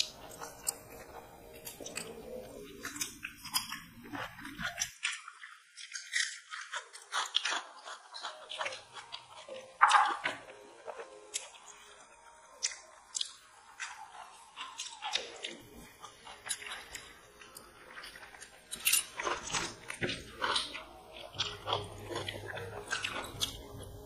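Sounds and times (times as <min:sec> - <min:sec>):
close-up chewing: 0:00.0 - 0:24.0
fingers clicking in rice: 0:00.0 - 0:24.0
small crunches: 0:00.0 - 0:24.0.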